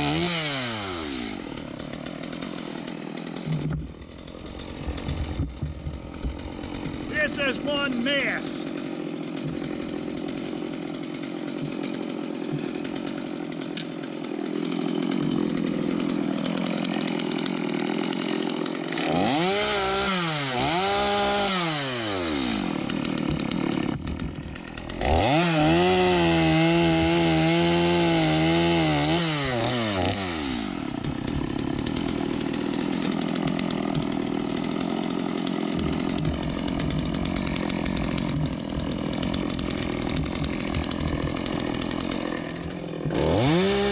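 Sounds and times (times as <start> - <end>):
chainsaw idling and revving: 0.0 - 43.9.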